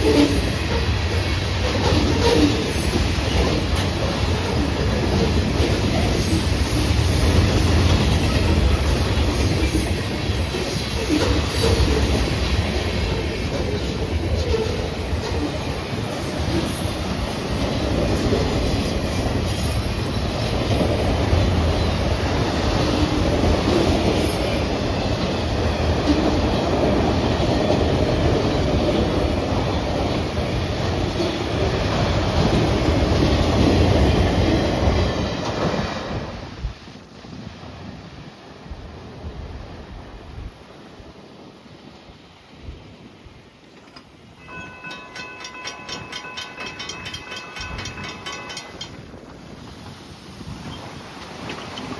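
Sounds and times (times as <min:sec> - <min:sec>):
rhythmic clicking over rail joints: 0:00.0 - 0:37.6, 0:43.5 - 0:51.9
train wheels rumbling on rail: 0:00.0 - 0:51.9.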